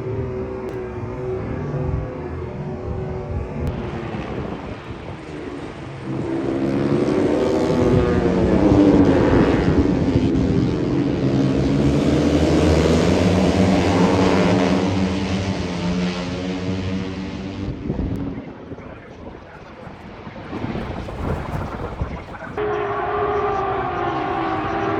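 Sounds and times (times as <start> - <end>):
engines passing by: 0.0 - 24.9.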